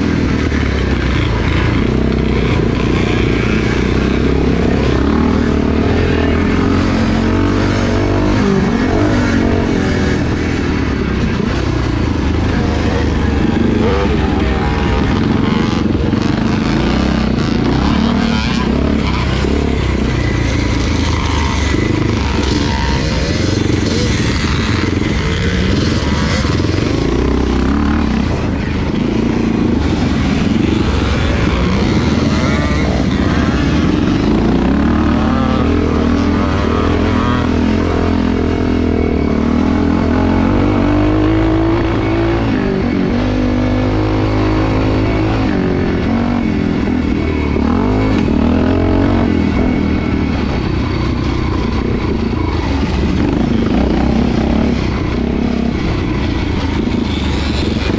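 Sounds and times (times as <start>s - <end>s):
motocross engine revving: 0.0s - 57.9s.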